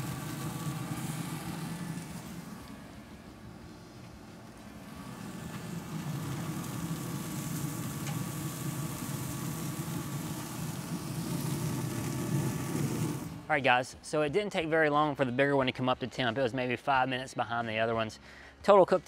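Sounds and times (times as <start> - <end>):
grill fan and fire rumble: 0.0 - 19.0.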